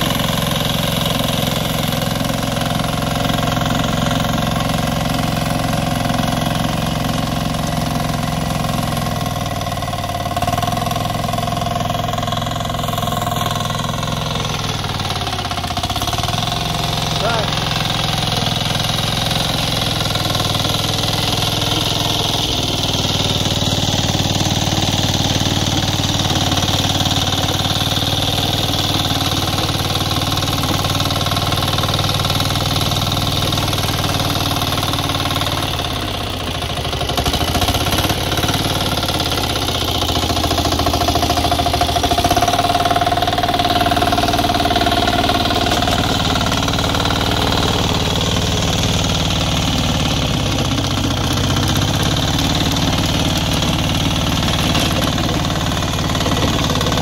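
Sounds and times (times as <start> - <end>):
diesel engine running under load: 0.0 - 57.0
rotary tiller working soil: 0.0 - 57.0.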